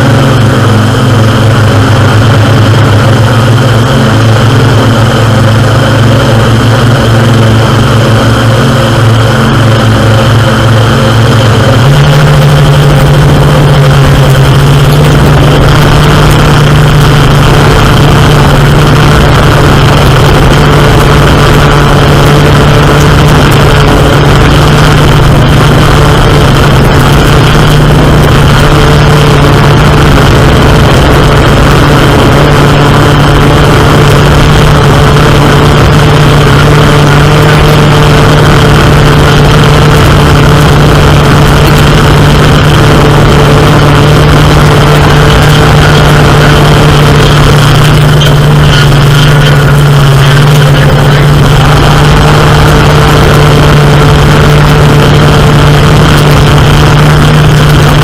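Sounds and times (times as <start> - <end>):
drone propellers humming: 0.0 - 58.0.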